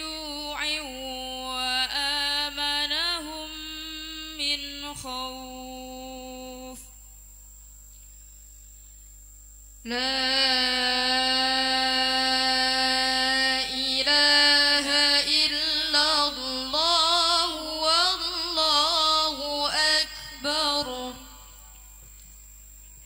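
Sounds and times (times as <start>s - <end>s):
woman reciting melodically: 0.0s - 7.2s, 9.8s - 21.9s.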